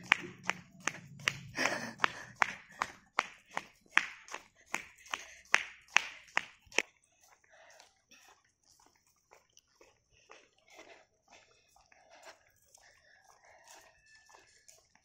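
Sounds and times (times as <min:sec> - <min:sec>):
brisk footsteps on asphalt: 0:00.0 - 0:15.0.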